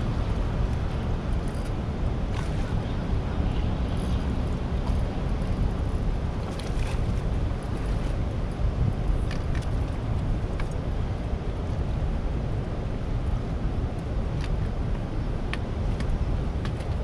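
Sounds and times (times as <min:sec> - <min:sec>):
turbulent water rushing: 0:00.0 - 0:17.0.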